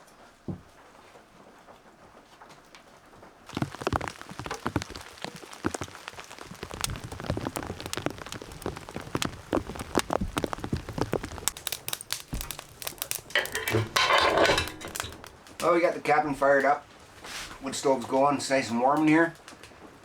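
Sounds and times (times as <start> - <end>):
raindrops pattering on hard surface: 0.1 - 20.0.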